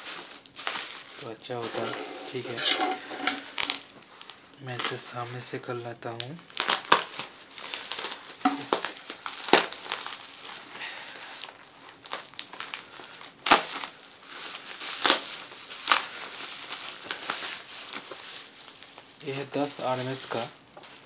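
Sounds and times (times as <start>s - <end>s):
sharp bubble wrap cracks: 0.0s - 2.5s, 3.4s - 5.0s, 6.2s - 21.0s
bubble wrap crinkling: 0.0s - 21.0s.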